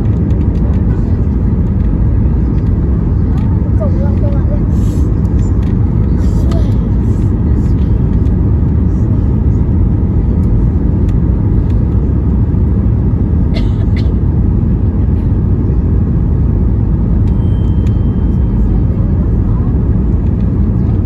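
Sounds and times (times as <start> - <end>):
jet cabin engine and airflow roar: 0.0 - 21.0.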